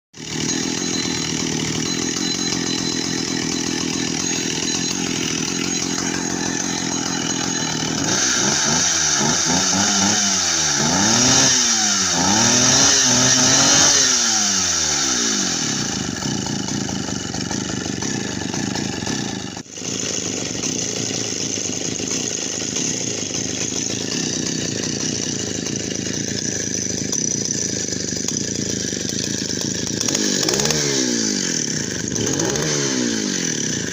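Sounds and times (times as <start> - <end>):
chainsaw engine revving: 0.2 - 33.9.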